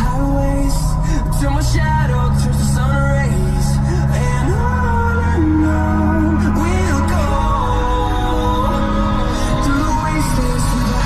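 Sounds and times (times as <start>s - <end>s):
song on car stereo: 0.0s - 11.0s.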